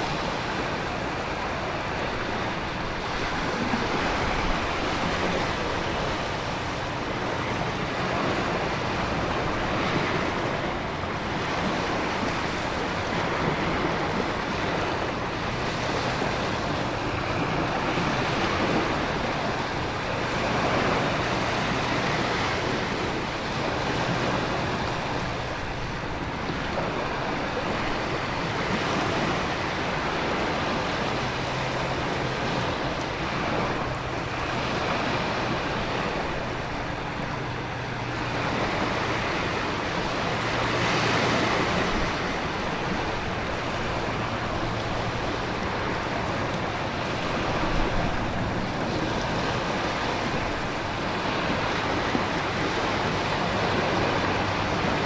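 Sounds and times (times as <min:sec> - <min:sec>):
ocean waves: 0:00.0 - 0:55.0
wind: 0:00.0 - 0:55.0.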